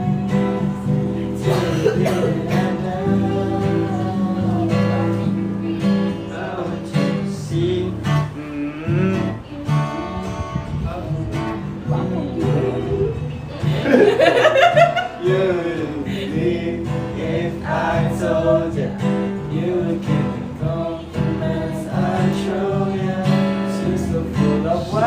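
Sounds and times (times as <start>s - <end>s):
acoustic guitar strumming: 0.0s - 25.0s
person singing: 0.0s - 25.0s.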